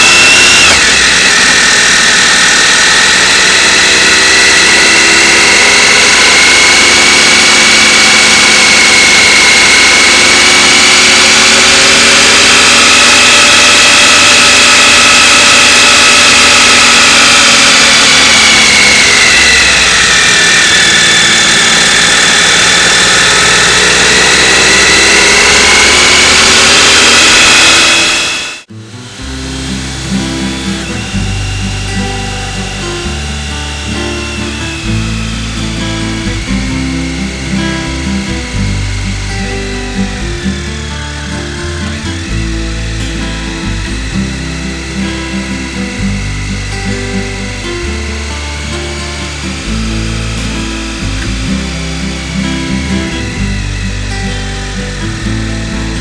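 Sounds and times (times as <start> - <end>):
motorcycle engine running: 0.0 - 56.0
rush of noise: 0.0 - 56.0.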